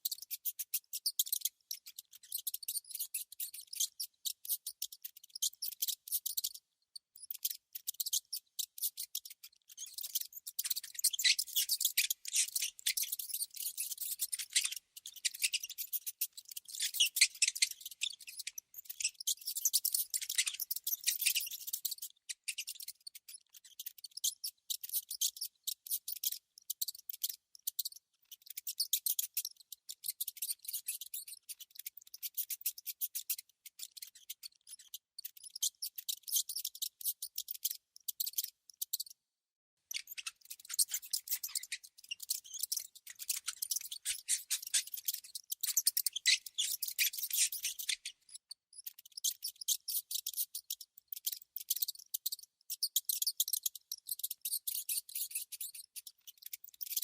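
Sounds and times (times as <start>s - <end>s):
rodent clicking and chittering: 0.0s - 39.2s, 39.9s - 57.0s.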